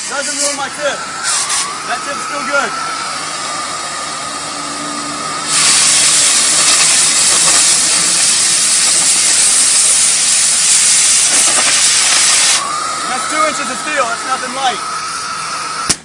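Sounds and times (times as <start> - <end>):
cutting torch flame hissing: 0.0 - 16.0.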